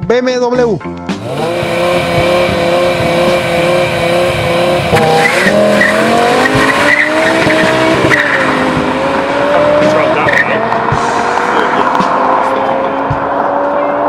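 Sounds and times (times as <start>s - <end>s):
car engine accelerating: 1.1s - 14.0s.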